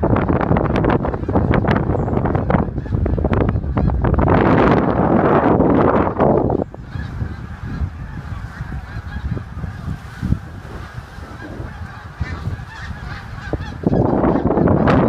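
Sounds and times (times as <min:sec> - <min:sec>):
geese honking: 0:00.0 - 0:15.0
wind rumble on microphone: 0:00.0 - 0:15.0.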